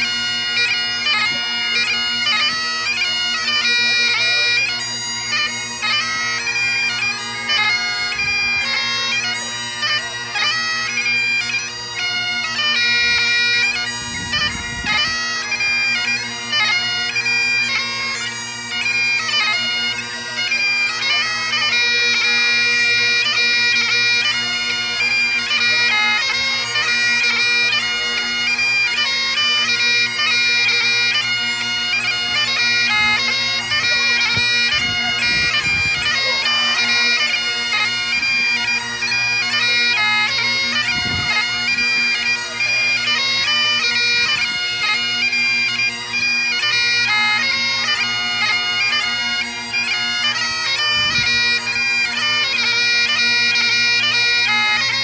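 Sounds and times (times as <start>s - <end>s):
bagpipe playing: 0.0s - 55.0s.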